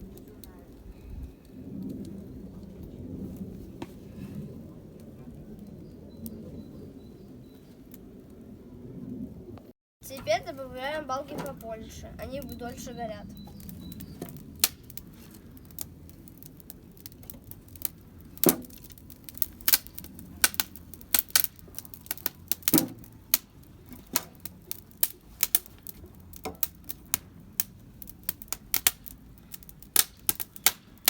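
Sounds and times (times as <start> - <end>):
campfire crackling and popping: 0.0 - 6.8, 10.0 - 31.0.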